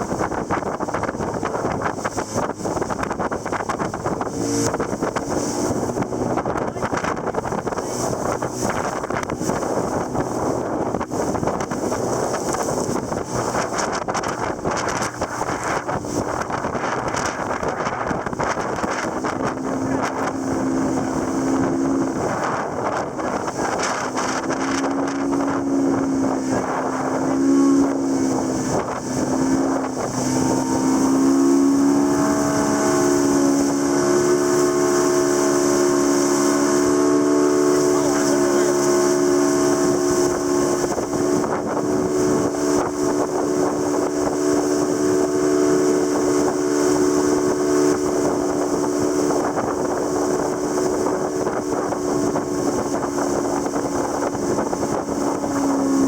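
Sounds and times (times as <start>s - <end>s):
motorboat engine running: 0.0s - 56.0s
wind and water rush: 0.0s - 56.0s.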